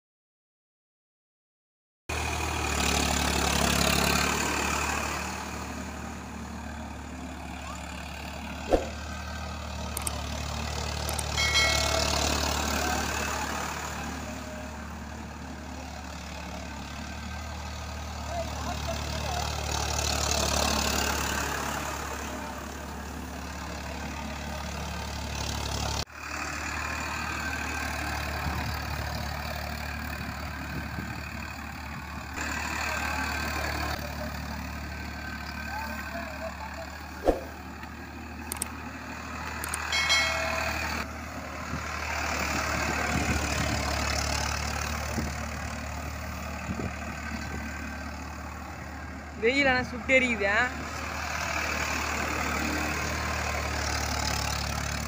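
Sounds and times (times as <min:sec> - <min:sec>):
tractor diesel engine running: 0:02.1 - 0:55.0.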